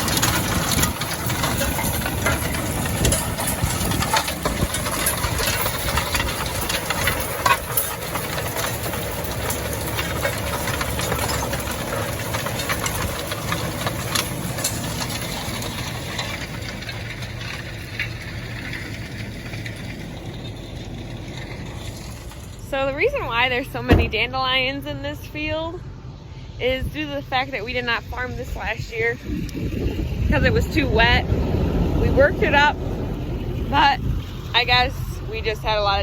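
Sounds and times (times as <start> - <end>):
vehicle engine running with rattles: 0.0 - 36.0.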